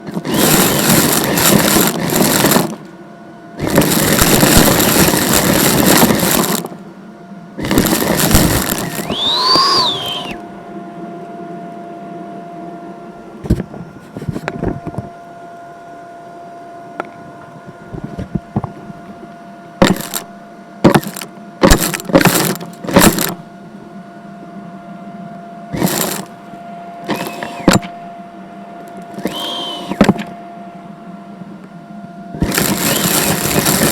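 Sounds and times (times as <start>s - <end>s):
steady hum: 0.0s - 33.9s
vacuum cleaner running: 0.0s - 33.9s.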